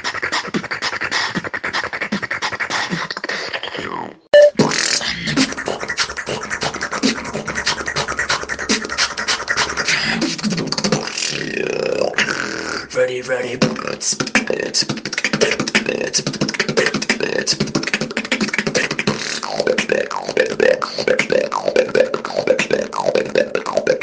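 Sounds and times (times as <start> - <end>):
buzzing pitched mouth sounds: 0.0 - 12.9, 13.6 - 24.0
vocal beatboxing: 0.0 - 24.0.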